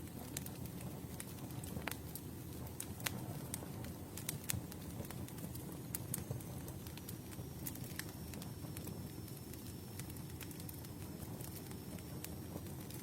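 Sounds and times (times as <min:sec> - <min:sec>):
low rumble of flame: 0:00.0 - 0:13.0
wood crackling and popping: 0:00.0 - 0:13.0.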